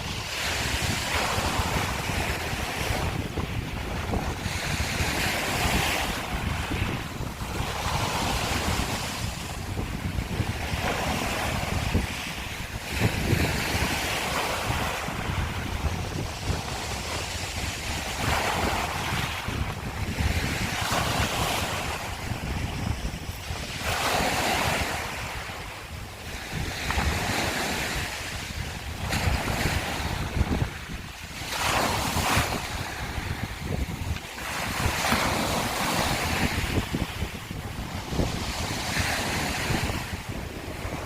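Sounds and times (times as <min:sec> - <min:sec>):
waves washing over shells: 0:00.0 - 0:41.0
wind buffeting microphone: 0:00.0 - 0:41.0.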